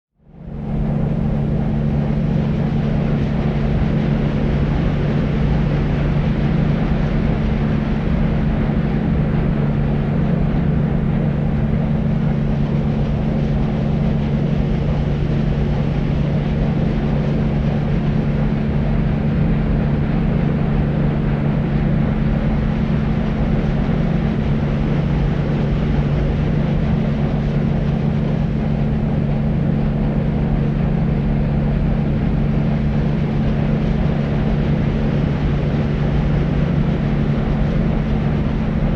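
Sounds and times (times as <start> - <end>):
deep white noise: 0.2 - 38.9
low hum: 0.2 - 38.9.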